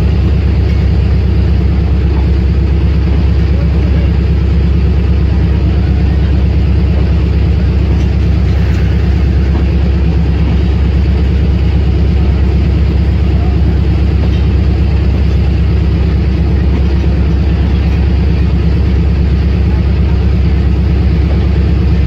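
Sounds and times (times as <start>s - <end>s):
diesel engine drone: 0.0s - 22.0s
train rolling past: 0.0s - 22.0s.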